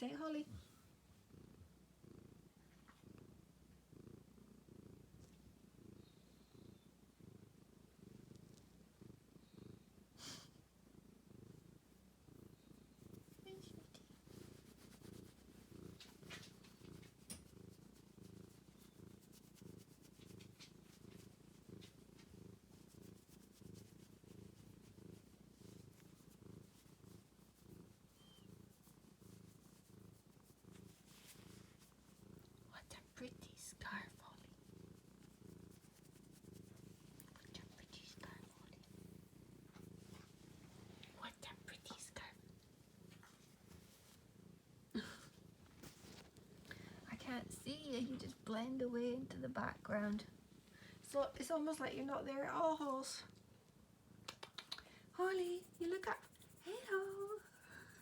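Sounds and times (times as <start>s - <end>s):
cat purring: 0.0s - 58.0s.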